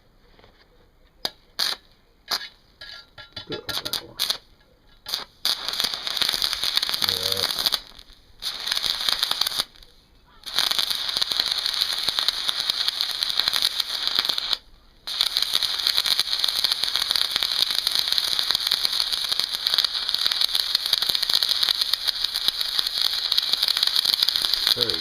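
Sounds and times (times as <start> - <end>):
welding arc crackling: 3.7 - 4.4, 5.1 - 9.8, 10.4 - 25.0.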